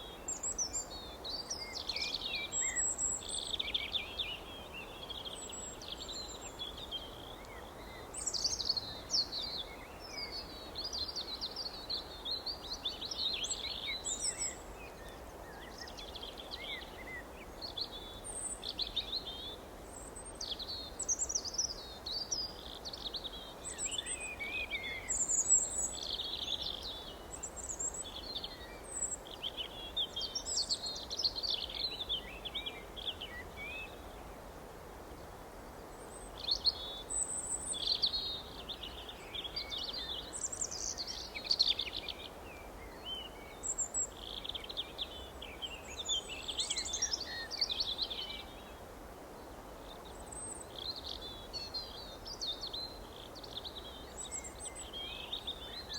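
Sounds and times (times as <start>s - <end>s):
songbirds chirping and twittering: 0.0s - 55.9s
steady background hiss: 0.0s - 55.9s.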